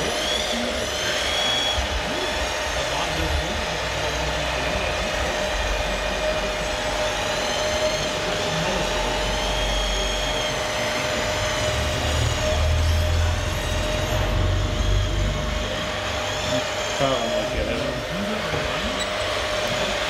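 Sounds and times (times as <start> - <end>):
hydraulic pump whining: 0.0 - 20.0.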